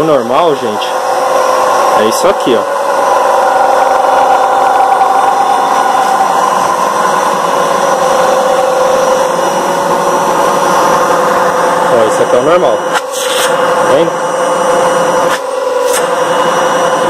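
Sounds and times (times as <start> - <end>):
air blower running with whine: 0.0 - 17.0.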